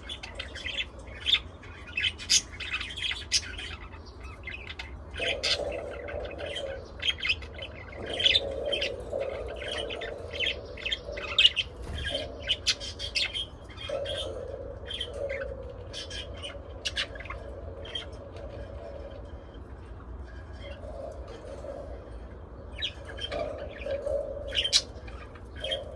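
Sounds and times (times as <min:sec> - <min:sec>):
budgies chirping and squawking: 0:00.0 - 0:25.9.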